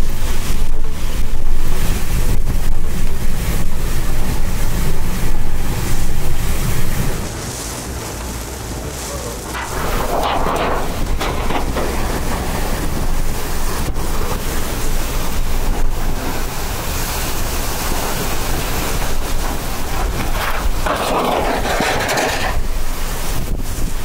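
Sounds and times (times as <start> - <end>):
driving rain: 0.0 - 24.0
strong wind blowing: 0.0 - 24.0
wind buffeting microphone: 0.0 - 24.0.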